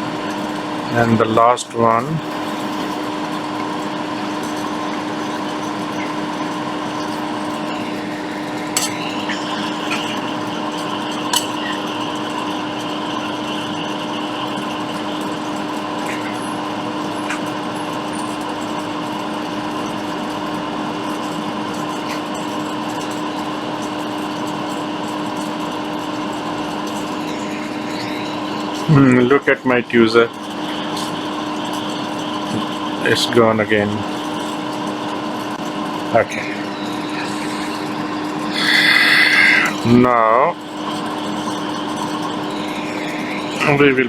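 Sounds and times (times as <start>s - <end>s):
hot air station blowing: 0.0s - 21.7s, 22.6s - 44.0s.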